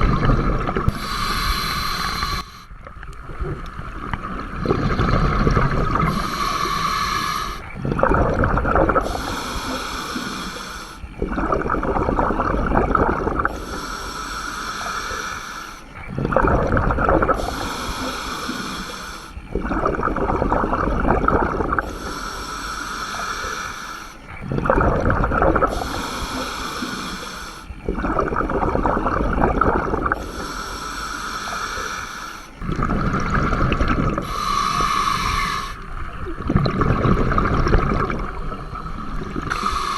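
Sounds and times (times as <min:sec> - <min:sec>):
diver breathing through regulator: 0:00.0 - 0:39.9.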